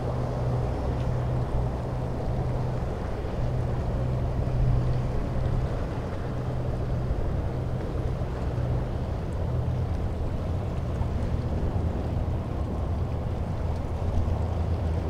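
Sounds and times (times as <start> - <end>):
ship engine low hum: 0.0 - 15.0.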